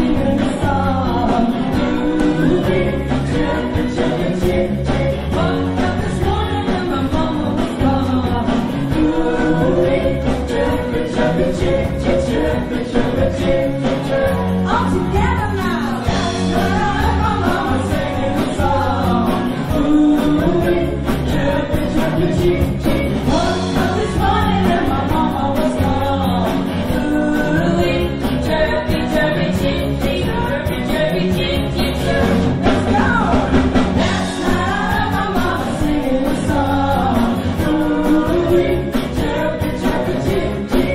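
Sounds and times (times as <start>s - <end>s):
live pop rock band: 0.0s - 40.9s
woman singing: 0.0s - 40.9s.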